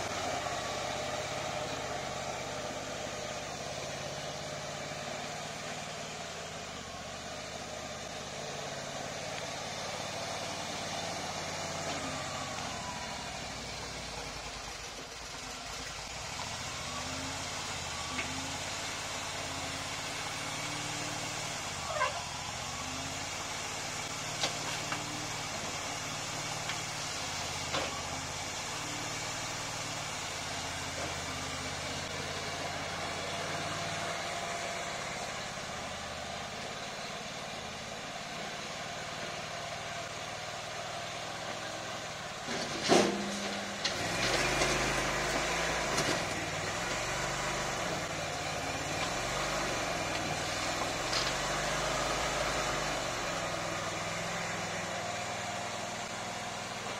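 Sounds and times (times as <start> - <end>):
loader engine running: 0.0 - 56.9.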